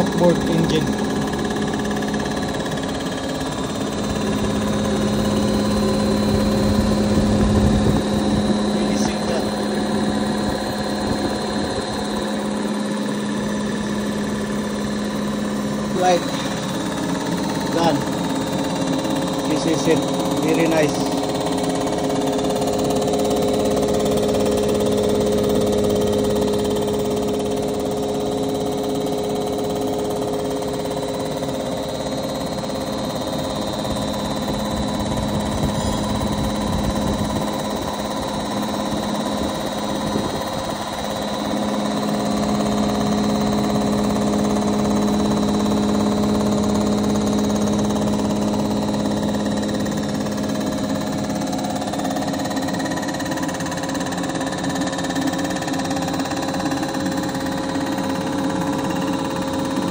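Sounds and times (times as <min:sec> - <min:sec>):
machine motor humming: 0:00.0 - 0:59.9.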